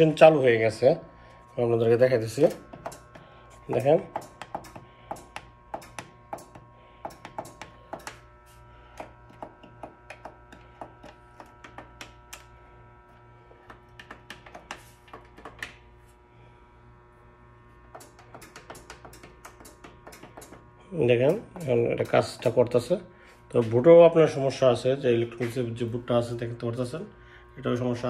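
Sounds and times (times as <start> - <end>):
espresso machine hum: 0.0 - 28.0.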